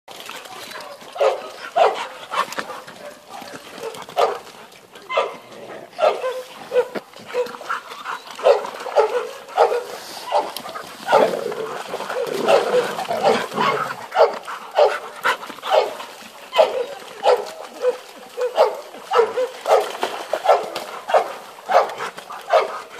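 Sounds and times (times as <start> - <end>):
dogs barking: 0.6 - 4.5, 5.1 - 22.9.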